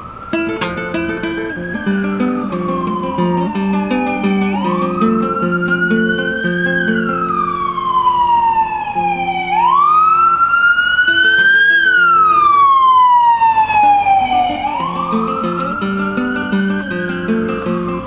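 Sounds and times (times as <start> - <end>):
emergency siren wailing: 0.0 - 18.0.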